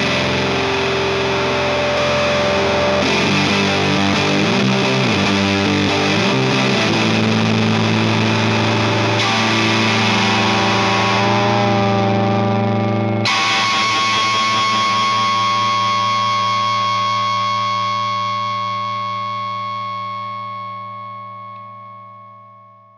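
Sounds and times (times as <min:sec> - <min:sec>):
distorted electric guitar chords: 0:00.0 - 0:22.9.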